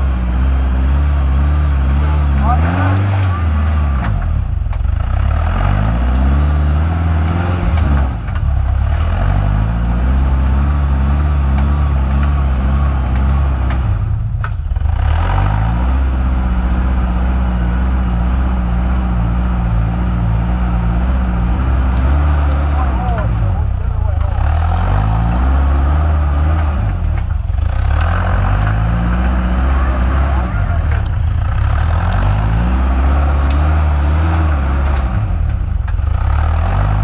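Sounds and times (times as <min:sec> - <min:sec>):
buggy engine revving under load: 0:00.0 - 0:37.0.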